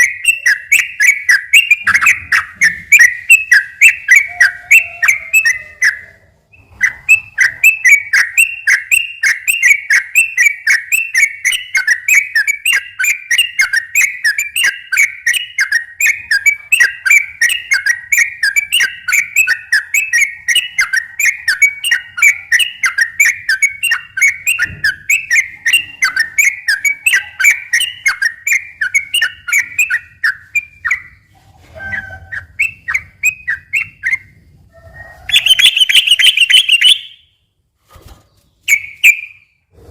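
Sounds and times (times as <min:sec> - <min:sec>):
bulbul singing warbling whistles: 0:00.0 - 0:31.3, 0:35.3 - 0:37.3, 0:38.6 - 0:39.6.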